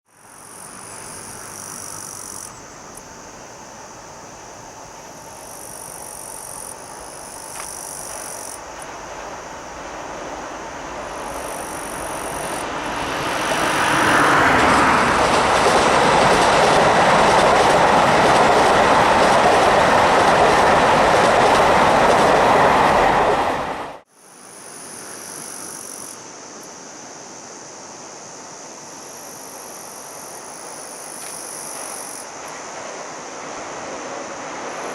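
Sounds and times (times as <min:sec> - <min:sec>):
diesel train passing at speed: 0:00.1 - 0:24.1, 0:24.9 - 0:34.9.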